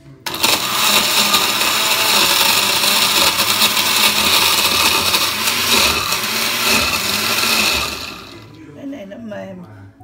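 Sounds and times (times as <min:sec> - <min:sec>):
blender grinding: 0:00.3 - 0:08.5.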